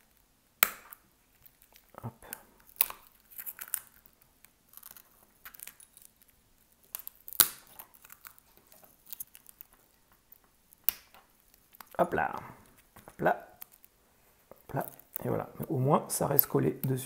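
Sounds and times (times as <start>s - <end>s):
glass cracking and crinkling: 0.0s - 17.0s.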